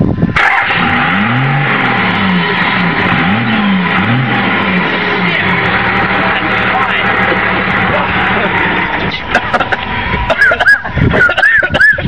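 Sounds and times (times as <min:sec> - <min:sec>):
exhaust rush: 0:00.0 - 0:12.0
vehicle engine revving: 0:00.1 - 0:12.0.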